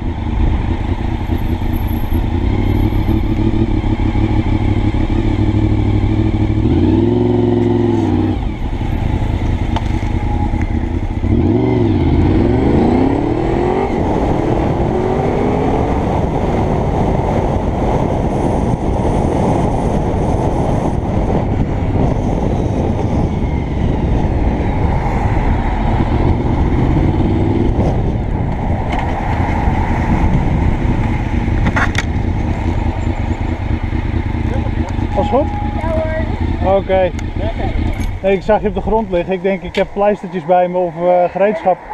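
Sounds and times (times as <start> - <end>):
motorcycle engine running: 0.0 - 40.2
wind rush on microphone: 4.6 - 41.9.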